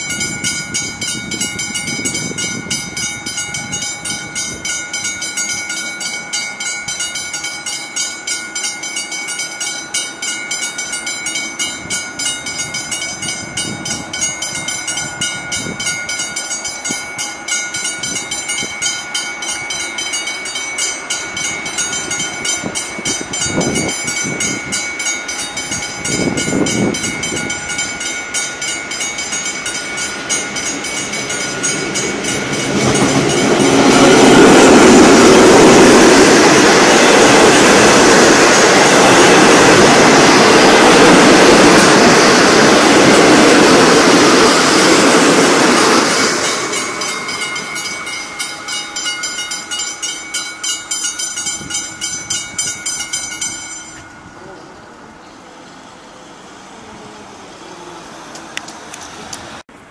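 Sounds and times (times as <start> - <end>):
level crossing bells ringing: 0.0 - 55.2
train running: 0.0 - 59.9.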